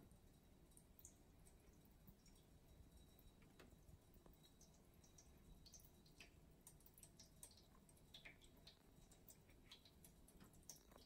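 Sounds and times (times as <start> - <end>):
water dripping into bowl: 0.0 - 11.0.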